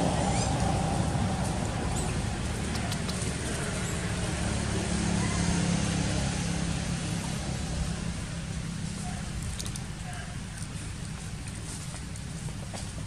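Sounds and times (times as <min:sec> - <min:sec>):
faint engine hum: 0:00.0 - 0:13.0
road traffic rumble: 0:00.0 - 0:13.0.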